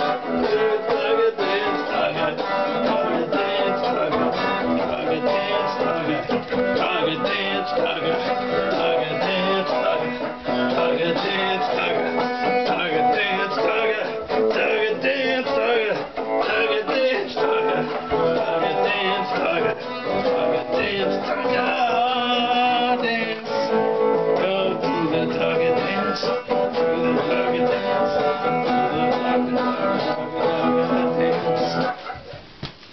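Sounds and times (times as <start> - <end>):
guitar strumming: 0.0 - 32.1.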